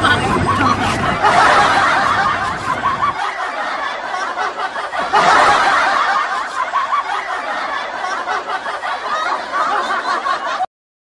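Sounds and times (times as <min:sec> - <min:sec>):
people laughing and snickering: 0:00.0 - 0:10.7.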